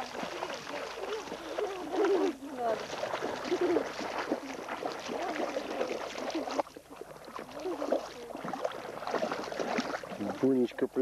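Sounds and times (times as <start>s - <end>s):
water splashing and lapping: 0.0s - 11.0s.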